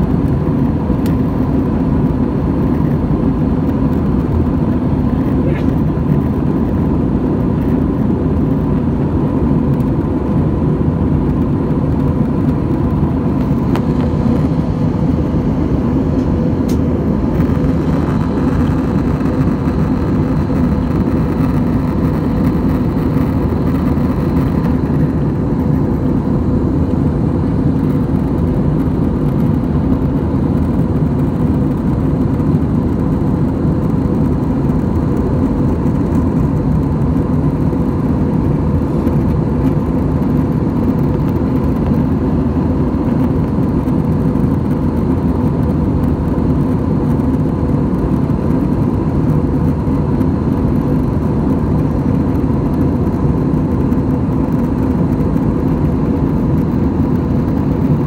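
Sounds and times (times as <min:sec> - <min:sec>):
faint steady hums: 0:00.0 - 0:58.0
jet engine and airflow roar: 0:00.0 - 0:58.0.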